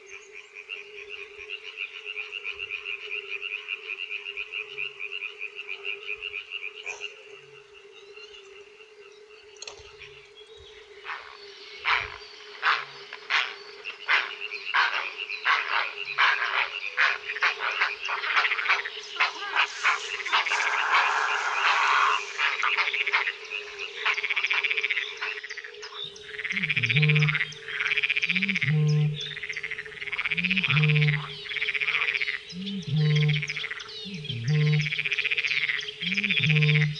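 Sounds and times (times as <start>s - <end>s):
frogs croaking: 0.0s - 36.9s.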